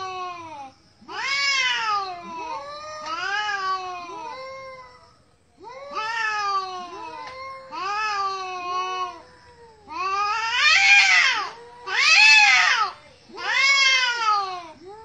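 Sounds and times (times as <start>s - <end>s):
cats yowling: 0.0s - 15.0s.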